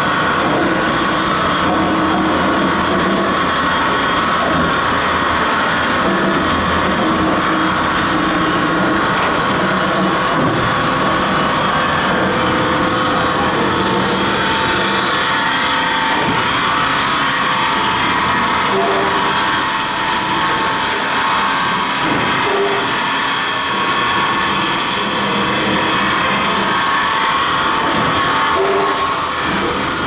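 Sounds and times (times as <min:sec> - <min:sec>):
knife grinding machine running: 0:00.0 - 0:30.0.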